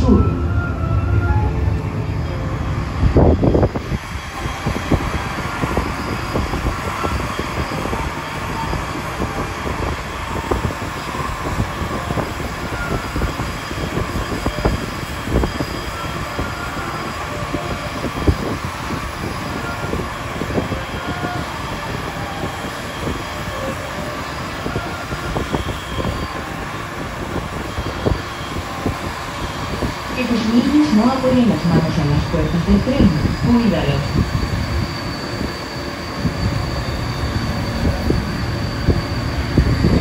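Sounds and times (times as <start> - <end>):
metro train running rumble: 0.0 - 40.0.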